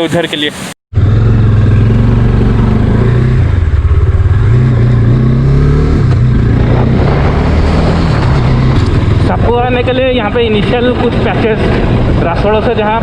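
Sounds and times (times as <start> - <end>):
motorcycle engine revving: 0.9 - 13.0.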